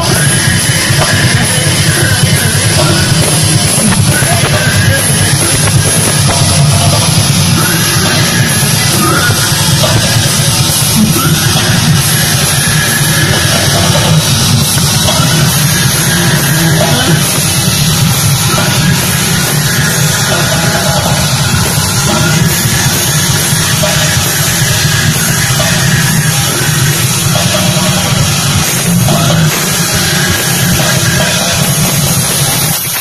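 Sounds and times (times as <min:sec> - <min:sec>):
heavy metal band playing: 0:00.0 - 0:33.0.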